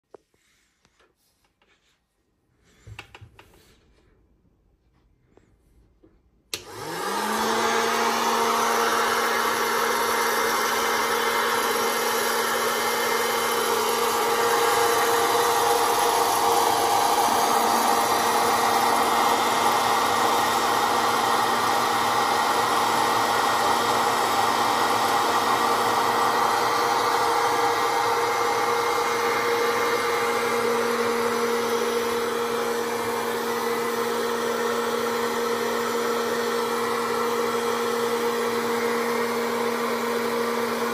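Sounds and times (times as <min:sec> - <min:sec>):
popcorn popper fan whirring: 0:06.5 - 0:40.9.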